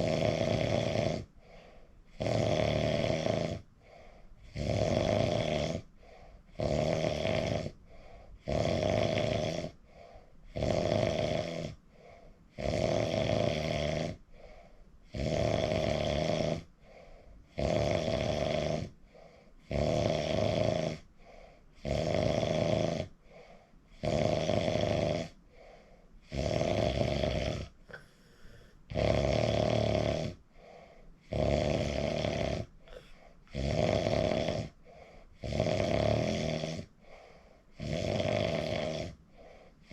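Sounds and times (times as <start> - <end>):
person snoring: 0.0 - 39.9.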